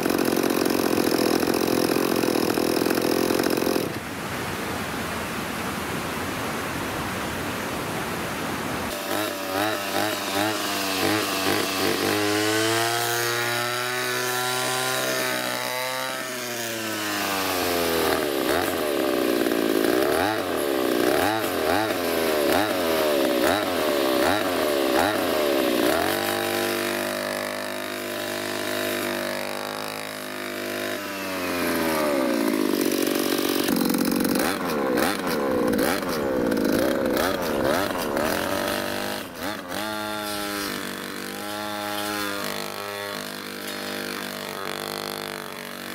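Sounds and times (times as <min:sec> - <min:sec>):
brush cutter engine revving: 0:00.0 - 0:04.0, 0:08.9 - 0:45.9.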